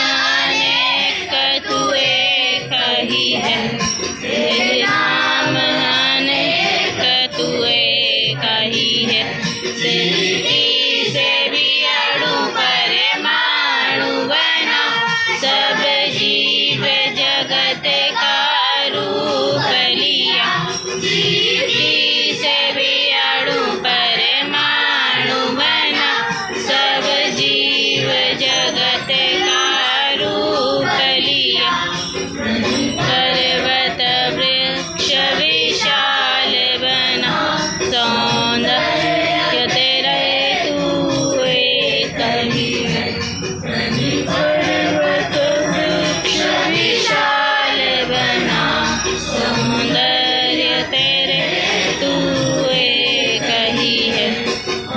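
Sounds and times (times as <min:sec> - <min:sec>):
background music: 0:00.0 - 0:54.9
voices singing a prayer: 0:00.0 - 0:54.9.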